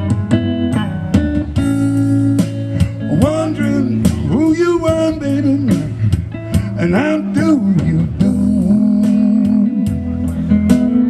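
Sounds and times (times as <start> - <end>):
electric bass: 0.0 - 11.0
electric guitar: 0.0 - 11.0.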